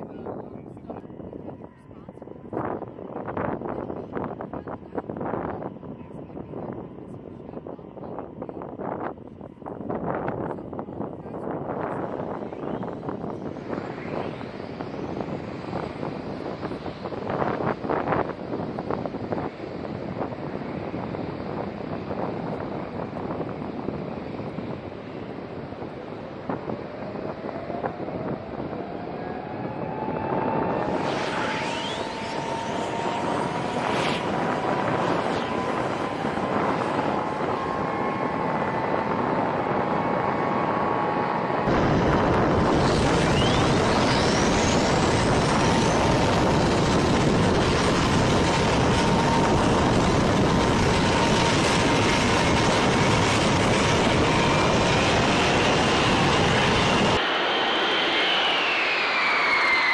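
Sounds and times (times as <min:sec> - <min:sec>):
jet engines spooling up: 0:11.4 - 0:59.9.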